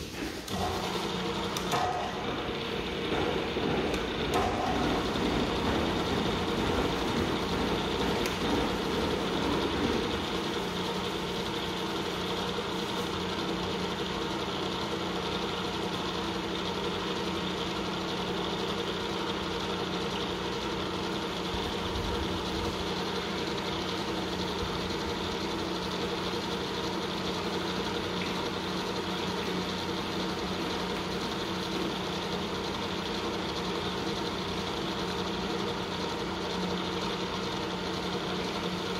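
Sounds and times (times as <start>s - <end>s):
milling machine hum: 0.0s - 38.9s.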